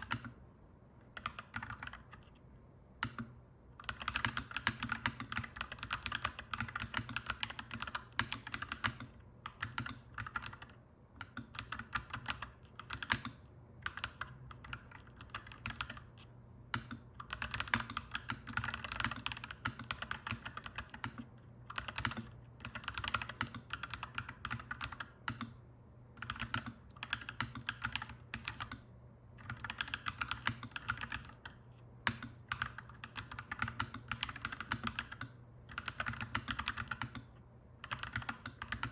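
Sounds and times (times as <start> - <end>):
mechanical keyboard typing: 0.0 - 0.4, 1.1 - 2.4, 3.0 - 25.6, 26.2 - 38.9.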